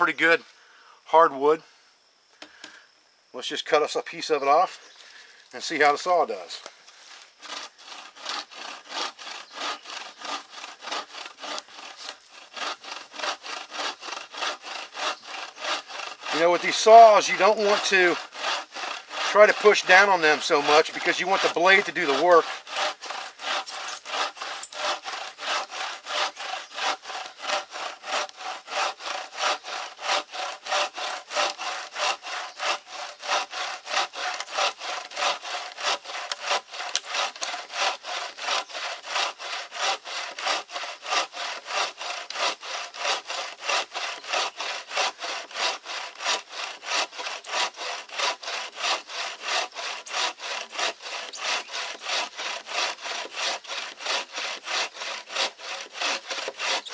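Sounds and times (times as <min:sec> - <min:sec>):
bow saw cutting log: 0:03.6 - 0:56.9.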